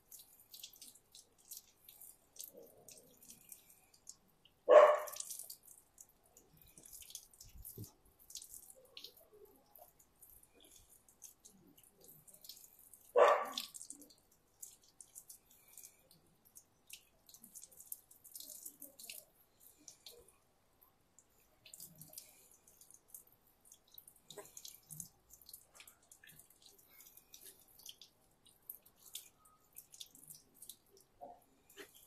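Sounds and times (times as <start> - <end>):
water dripping and splashing: 0.0 - 32.0.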